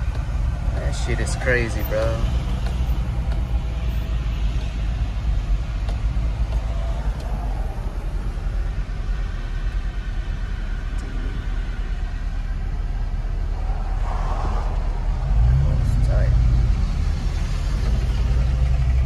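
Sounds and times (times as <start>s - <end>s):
pickup engine and tyres rumbling: 0.0s - 19.0s.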